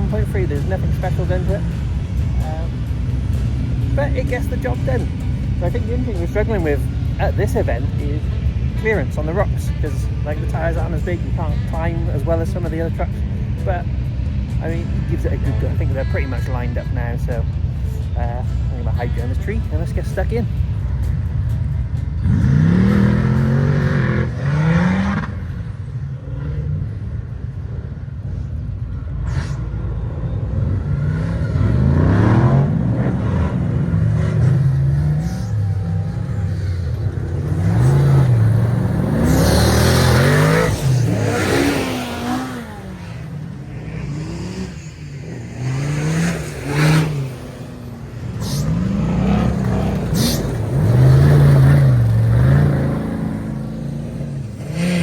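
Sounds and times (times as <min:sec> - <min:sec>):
race truck engines revving: 0:00.0 - 0:55.0.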